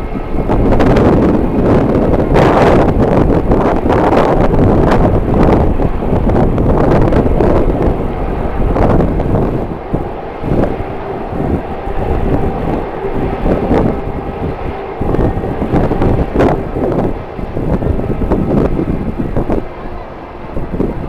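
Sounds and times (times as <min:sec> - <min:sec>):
jet engines droning: 0:00.0 - 0:21.0
wind buffeting microphone: 0:00.0 - 0:21.0.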